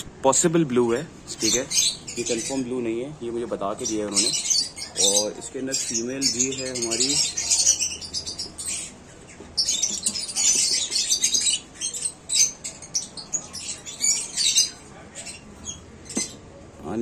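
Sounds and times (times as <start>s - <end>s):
birds squawking and chirping: 0.0s - 17.0s.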